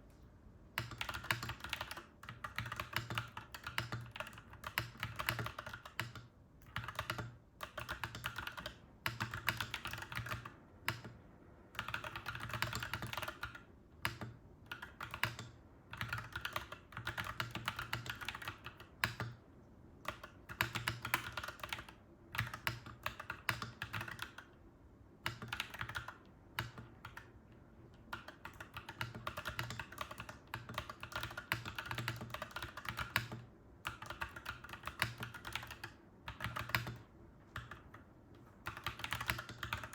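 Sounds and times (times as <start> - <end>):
mechanical keyboard typing: 0.8 - 19.4, 20.0 - 24.6, 25.2 - 39.9.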